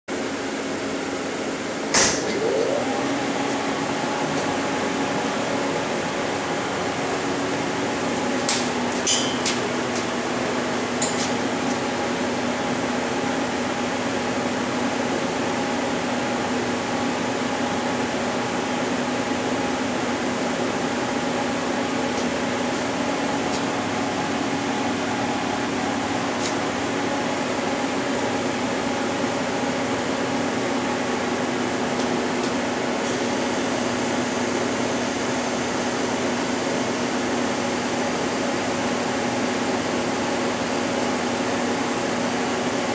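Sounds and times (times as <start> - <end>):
machine humming with tones: 0.2 - 42.9.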